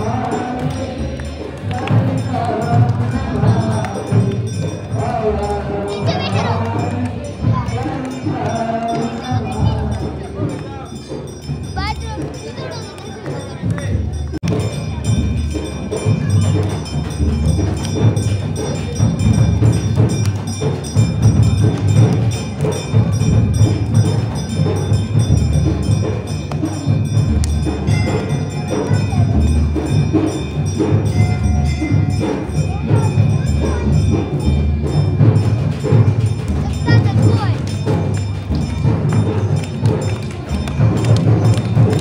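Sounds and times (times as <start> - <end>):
bells ringing: 0.0 - 42.0
drums beating: 0.0 - 42.0.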